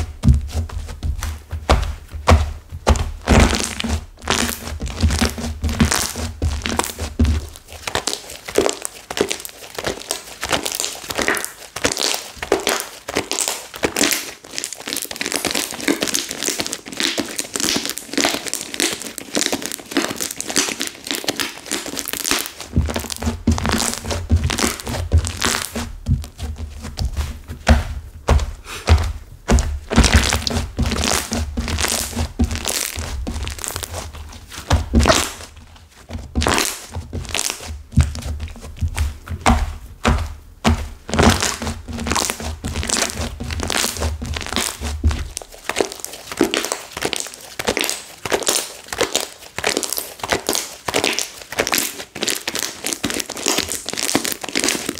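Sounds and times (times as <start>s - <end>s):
slime crunching and crackling: 0.0s - 54.9s.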